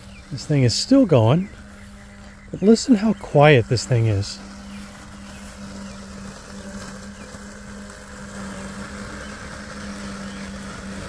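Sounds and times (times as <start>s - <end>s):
robotic lawn mower hum: 0.0s - 11.0s.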